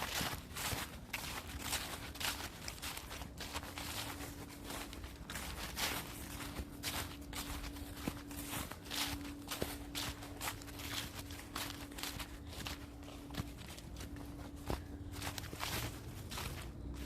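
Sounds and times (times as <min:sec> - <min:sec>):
footsteps crunching on a trail: 0:00.0 - 0:17.0.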